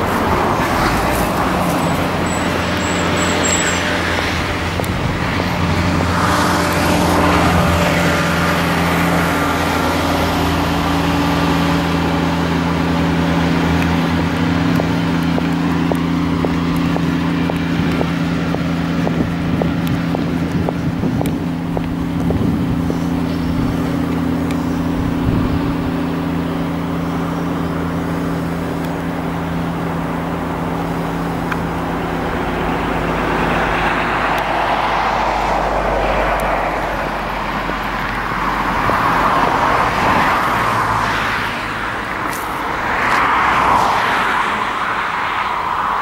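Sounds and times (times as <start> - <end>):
cars passing with tyre rush: 0.0 - 46.0
steady engine hum: 0.0 - 46.0.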